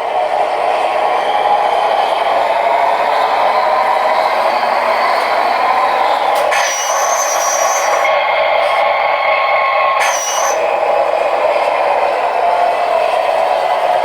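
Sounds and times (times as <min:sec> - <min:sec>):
model truck whirring: 0:00.0 - 0:14.0.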